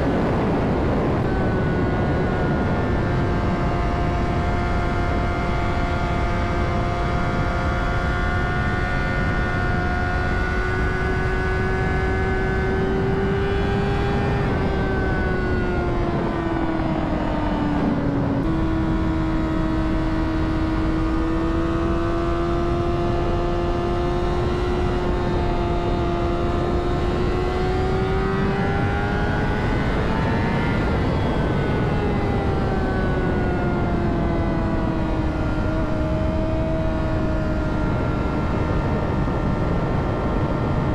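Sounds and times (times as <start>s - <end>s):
motorcycle engine at high revs: 0.0s - 40.9s
wind rush: 0.0s - 40.9s.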